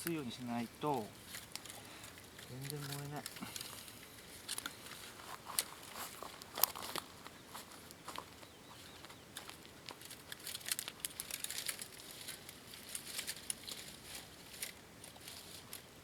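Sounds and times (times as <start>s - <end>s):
twigs crackling and rustling: 0.0s - 16.0s.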